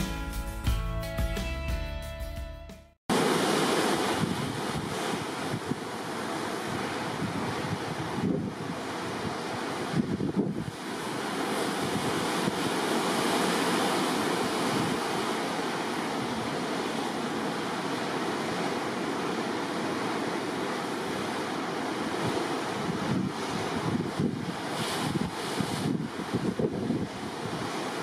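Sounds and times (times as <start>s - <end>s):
sea water rushing along ship: 3.1s - 28.0s
wind on microphone: 3.2s - 28.0s.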